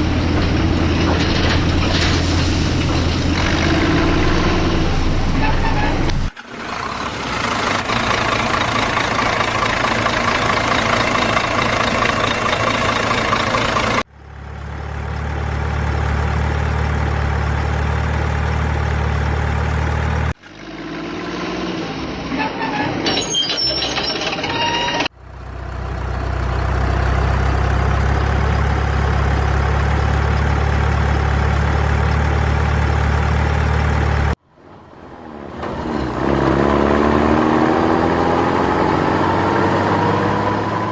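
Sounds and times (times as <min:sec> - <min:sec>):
heavy truck engine droning: 0:00.0 - 0:40.9.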